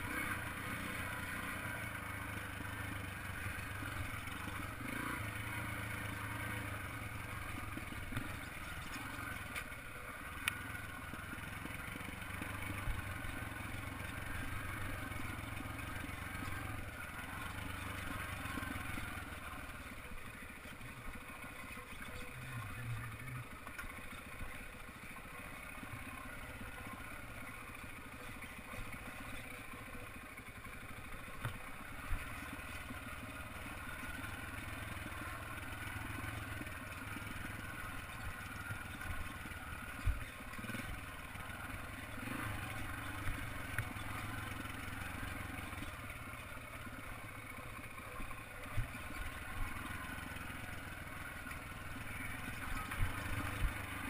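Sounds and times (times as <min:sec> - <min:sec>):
trail bike engine running: 0:00.0 - 0:54.0
knocks and rattles from bike: 0:00.1 - 0:54.0.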